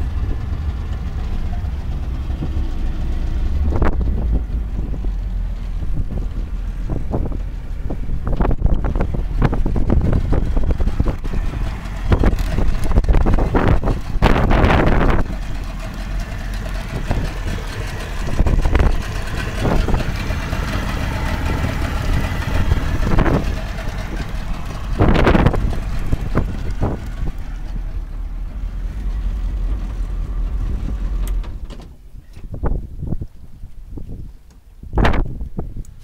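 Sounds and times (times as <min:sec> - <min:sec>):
outboard motor idling: 0:00.0 - 0:31.8.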